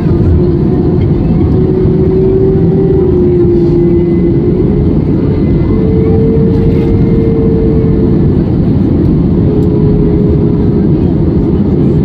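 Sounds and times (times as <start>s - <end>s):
humming engine tone: 0.0s - 12.0s
jet engine roar in cabin: 0.0s - 12.0s.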